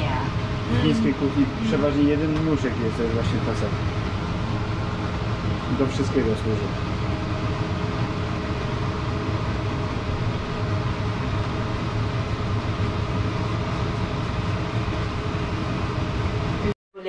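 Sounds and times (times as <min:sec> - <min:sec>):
mechanical rushing noise: 0:00.0 - 0:16.7
low hum: 0:00.0 - 0:16.8.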